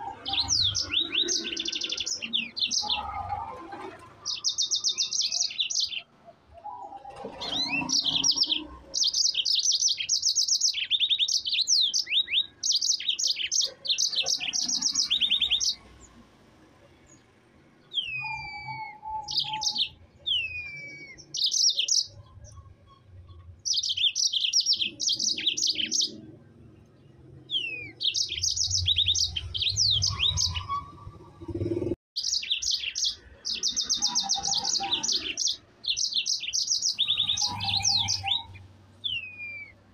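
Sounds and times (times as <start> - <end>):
canary singing trilled phrases: 0.0 - 16.1, 17.9 - 26.4, 27.4 - 39.9.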